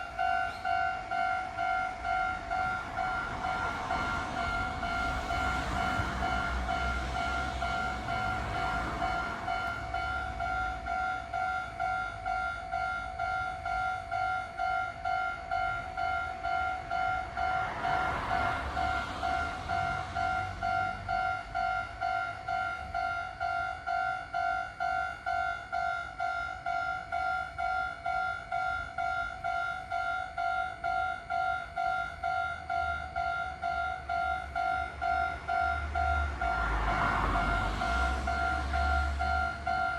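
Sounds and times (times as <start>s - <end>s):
level crossing warning bell: 0.0s - 39.9s
train passing: 0.0s - 39.9s.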